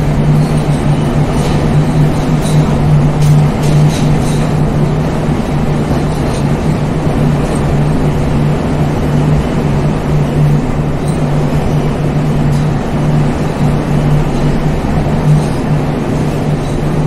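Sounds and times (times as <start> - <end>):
low hum: 0.0 - 17.0
train rumbling: 0.0 - 17.0.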